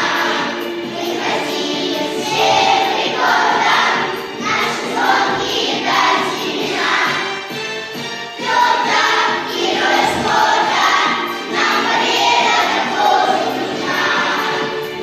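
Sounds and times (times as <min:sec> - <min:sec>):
choir singing: 0:00.0 - 0:07.4, 0:08.4 - 0:15.0
instrumental accompaniment: 0:00.0 - 0:15.0.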